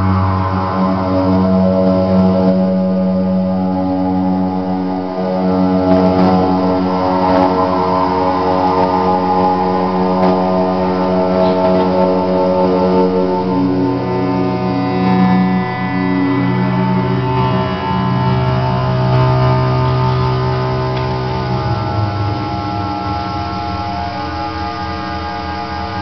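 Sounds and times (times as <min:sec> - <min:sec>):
modular synthesizer drone: 0:00.0 - 0:26.0
strong low hum: 0:00.0 - 0:26.0.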